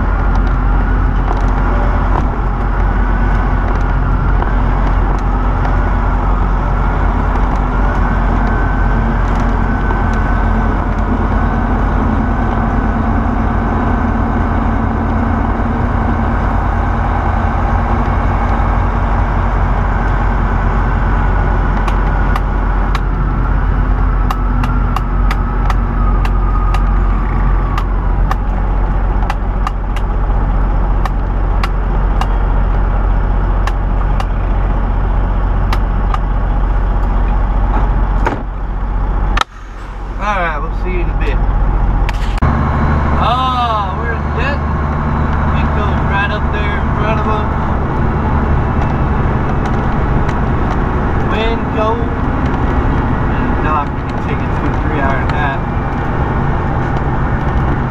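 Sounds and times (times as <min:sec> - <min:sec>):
truck engine and road drone: 0:00.0 - 0:57.9.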